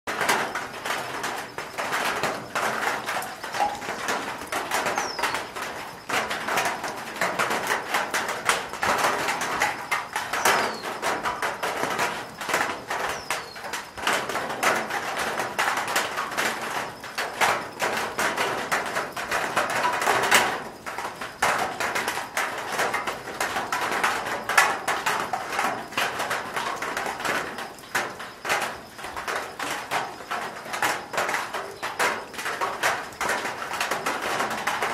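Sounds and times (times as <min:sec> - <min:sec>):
rain on metal roof: 0:00.1 - 0:34.9.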